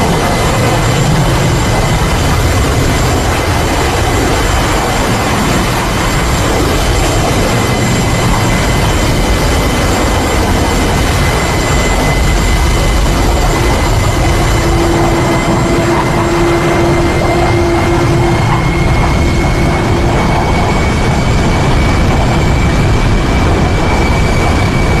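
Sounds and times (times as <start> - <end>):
aircraft engines roaring: 0.0 - 25.0
thin high whine: 0.0 - 25.0.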